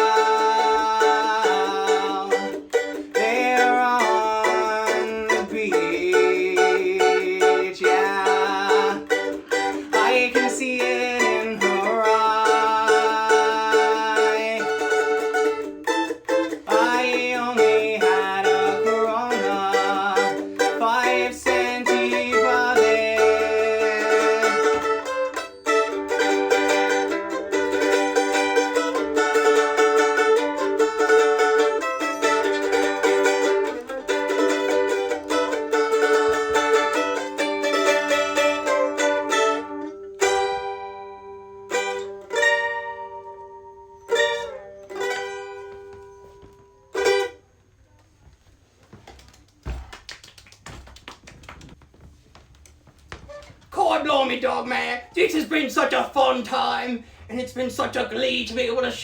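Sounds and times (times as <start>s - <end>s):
mandolin playing: 0.0s - 48.0s.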